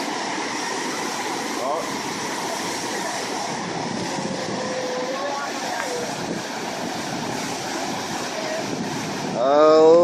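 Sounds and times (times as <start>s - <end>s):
whitewater rushing roar: 0.0s - 10.0s.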